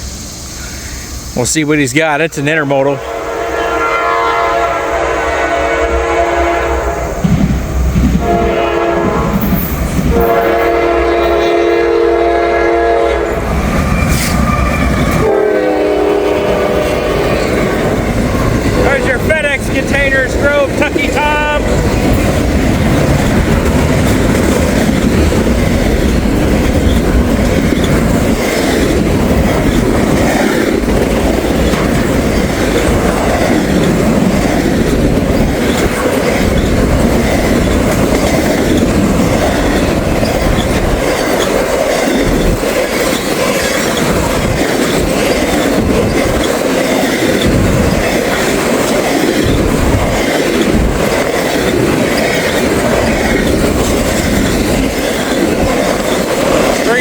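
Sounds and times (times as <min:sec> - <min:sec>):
steel wheels rolling on rails: 0:05.0 - 0:57.0.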